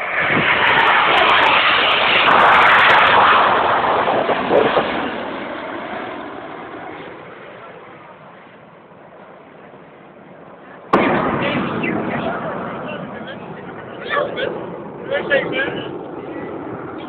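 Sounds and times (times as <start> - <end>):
jets passing overhead: 0.0 - 17.0.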